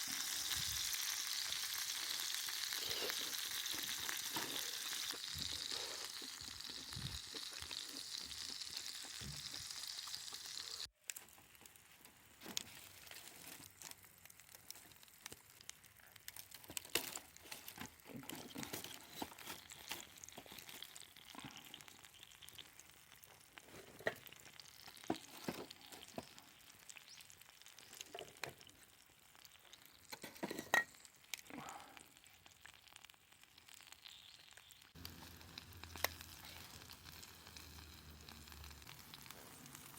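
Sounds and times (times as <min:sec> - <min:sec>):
meat sizzling in a pan: 0:00.0 - 0:12.4, 0:13.6 - 0:39.9
pops and crackles: 0:00.0 - 0:39.9.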